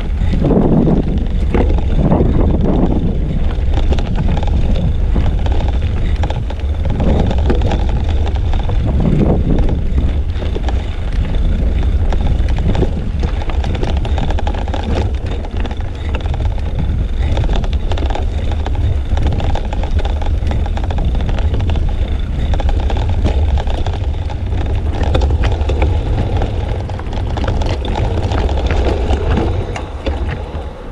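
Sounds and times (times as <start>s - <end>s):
bicycle riding noise: 0.0s - 30.9s
wind buffeting microphone: 0.0s - 30.9s.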